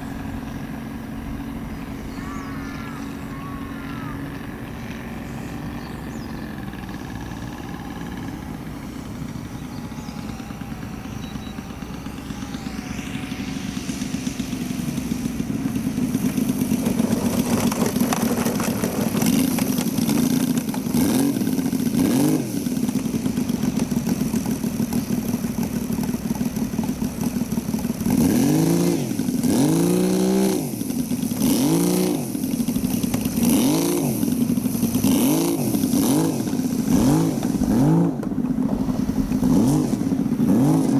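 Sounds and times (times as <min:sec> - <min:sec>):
model plane radial engine running: 0:00.0 - 0:40.9.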